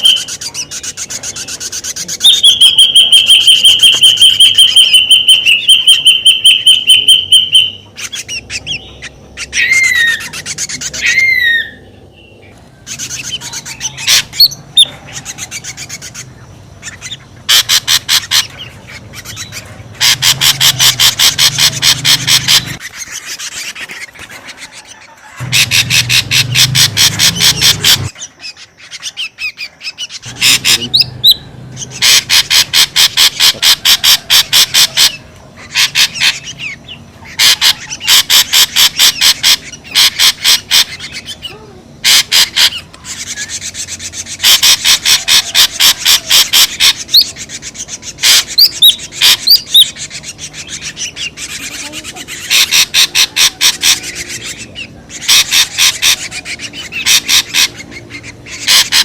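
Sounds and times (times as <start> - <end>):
bird calling repeated notes: 0.0 - 59.0.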